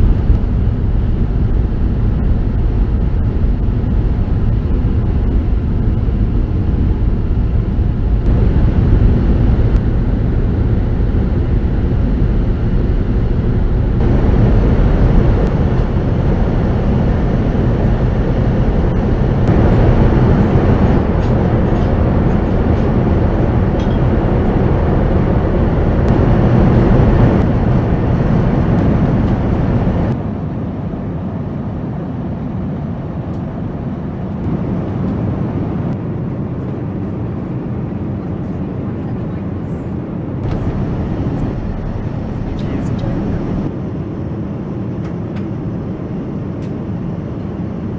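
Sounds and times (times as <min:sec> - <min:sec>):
aircraft cabin engine roar: 0:00.0 - 0:47.9.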